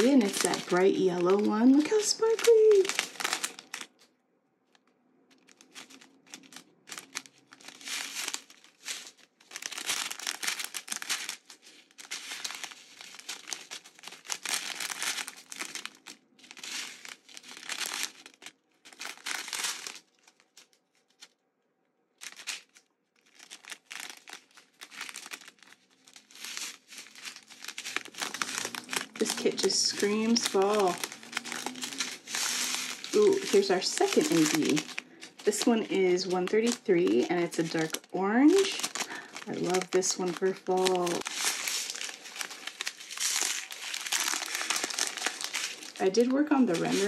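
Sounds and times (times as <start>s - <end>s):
plastic bags crinkling: 0.0s - 21.4s, 22.2s - 47.0s.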